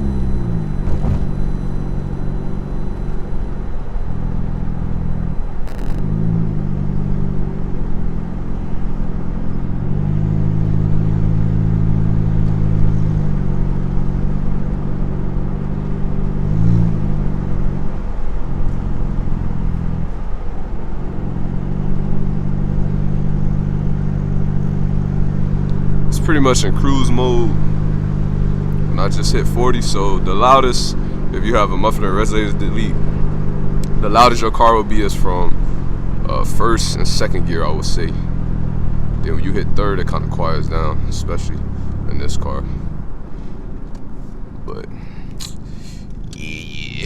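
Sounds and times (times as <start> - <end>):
car engine through open exhaust: 0.0 - 47.0.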